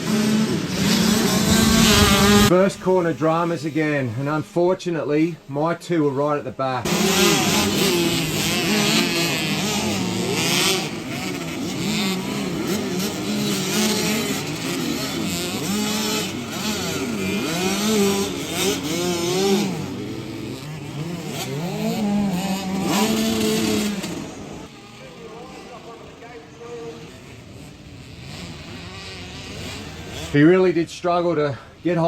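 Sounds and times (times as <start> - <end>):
motocross bikes revving: 0.0 - 32.0.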